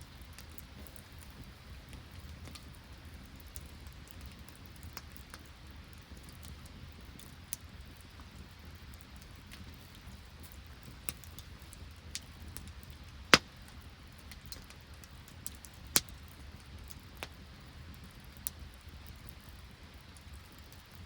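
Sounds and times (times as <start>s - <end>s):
campfire crackling and popping: 0.2s - 21.0s.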